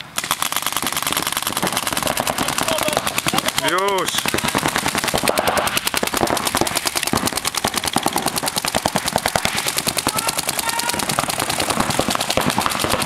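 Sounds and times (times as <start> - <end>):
paintball markers firing rapidly: 0.0 - 13.0.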